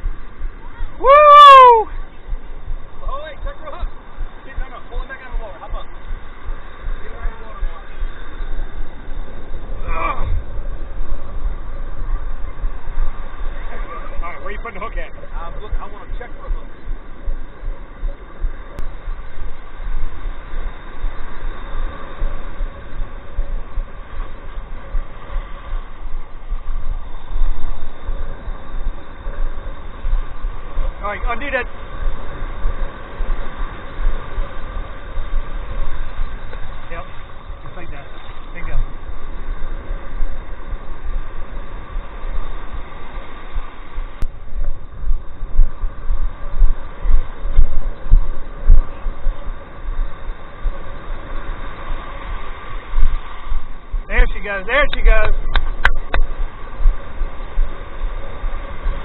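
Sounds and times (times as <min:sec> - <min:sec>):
breaking surf: 0:00.0 - 0:59.0
wind buffeting microphone: 0:00.0 - 0:59.0.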